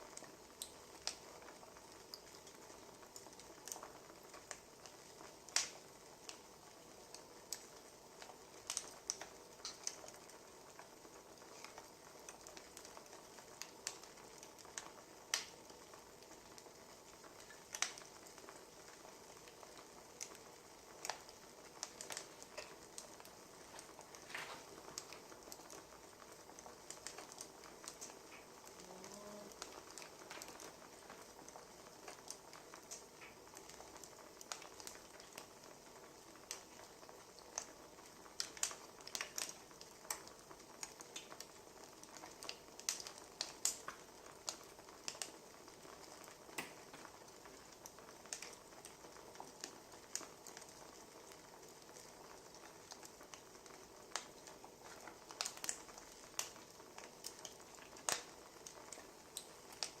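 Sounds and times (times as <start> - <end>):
soft steady hiss: 0.0 - 60.0
wood fire crackling: 0.0 - 60.0.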